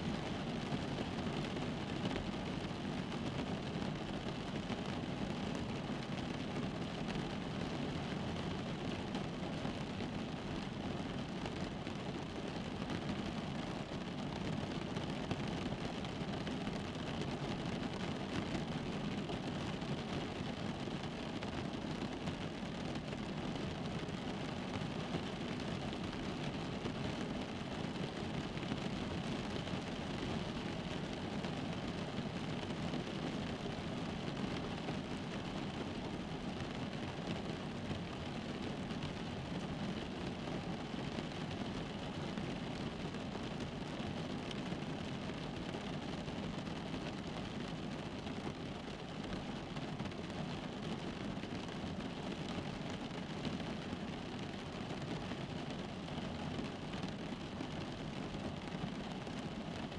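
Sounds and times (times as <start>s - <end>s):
rain pattering on car roof: 0.0s - 59.9s.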